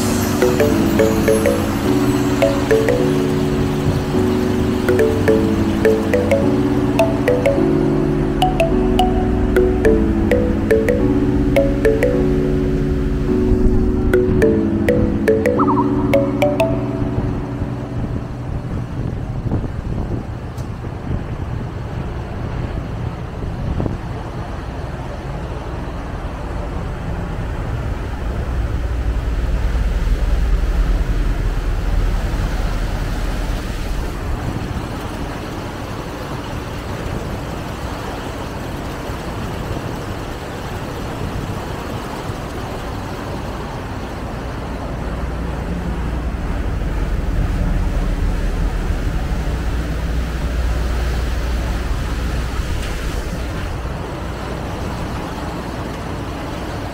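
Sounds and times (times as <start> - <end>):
water rushing along hull: 0.0 - 56.9.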